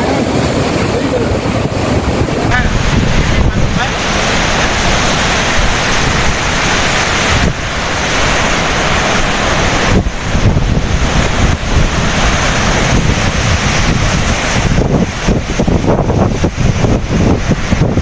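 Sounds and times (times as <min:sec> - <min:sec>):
water rushing through spillway: 0:00.0 - 0:18.0
wind buffeting microphone: 0:00.0 - 0:18.0.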